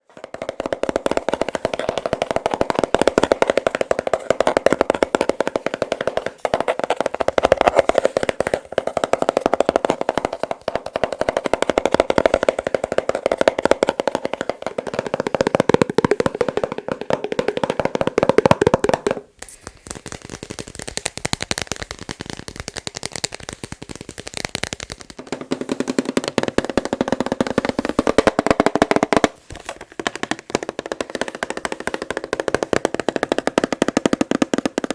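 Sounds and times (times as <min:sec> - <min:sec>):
fast tapping on objects: 0:00.0 - 0:34.9.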